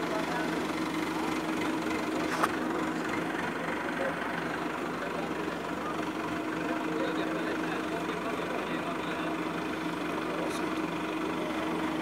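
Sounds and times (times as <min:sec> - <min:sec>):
crane engine humming: 0:00.0 - 0:12.0.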